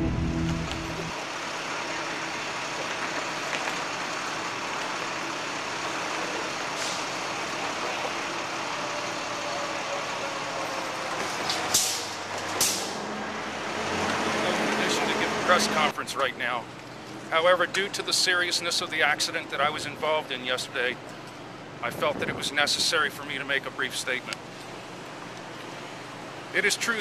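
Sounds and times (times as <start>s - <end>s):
street traffic noise: 0.0s - 27.0s.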